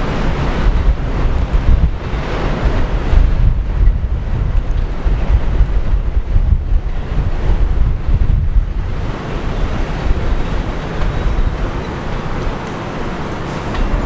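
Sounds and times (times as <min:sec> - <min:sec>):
subway train wheels on rails: 0:00.0 - 0:14.0
wind buffeting microphone: 0:00.0 - 0:14.0.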